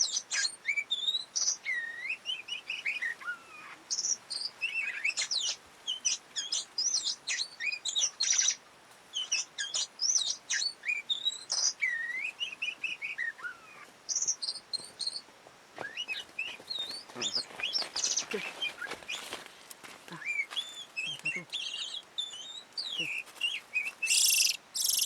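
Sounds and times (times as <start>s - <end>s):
bird whistling and chirping: 0.0s - 8.5s, 9.2s - 15.2s, 15.8s - 19.4s, 20.2s - 25.0s.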